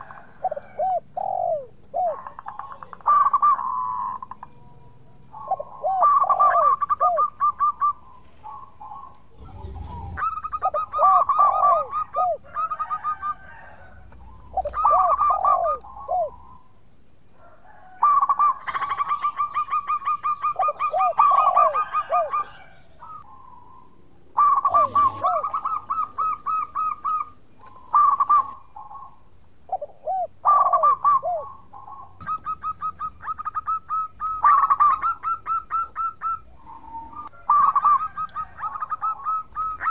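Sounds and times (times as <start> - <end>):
dove cooing song: 0.0 - 4.6, 5.3 - 16.7, 17.4 - 39.9.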